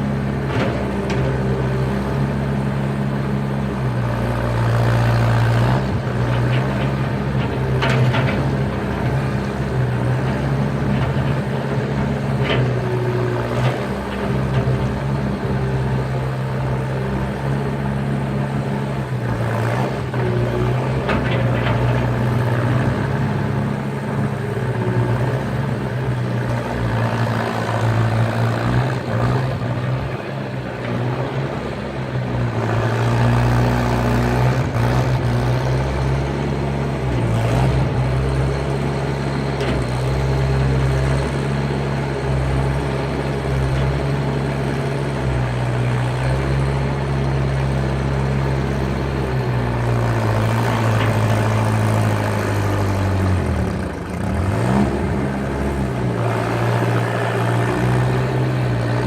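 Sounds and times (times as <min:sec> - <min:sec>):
skid steer engine running: 0:00.0 - 0:59.0.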